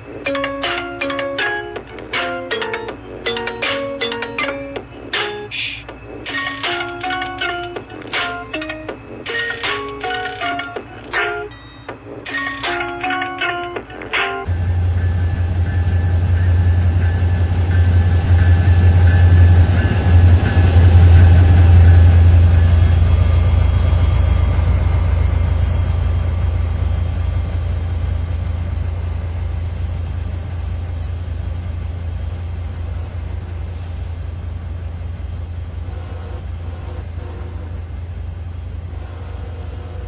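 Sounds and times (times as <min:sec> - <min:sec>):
diesel locomotive engine drone: 0:00.0 - 0:40.0.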